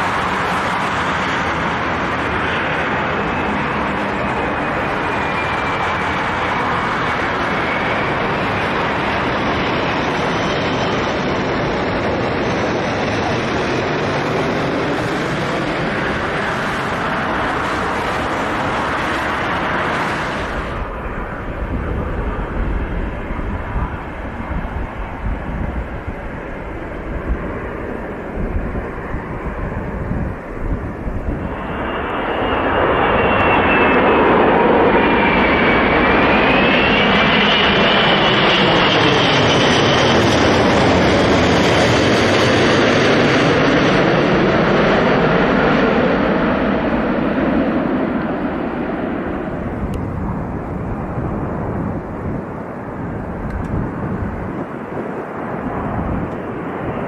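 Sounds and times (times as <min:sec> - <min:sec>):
high engine whine: 0:00.0 - 0:57.0
jet airliner passing overhead: 0:00.0 - 0:57.0.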